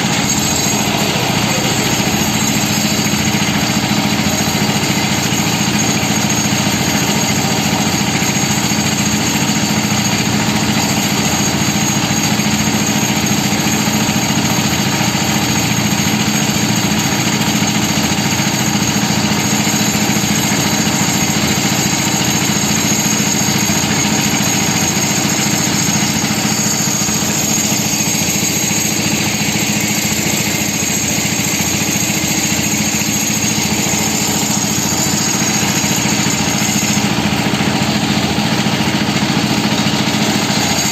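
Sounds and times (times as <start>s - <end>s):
concrete mixer engine running: 0.0s - 40.9s.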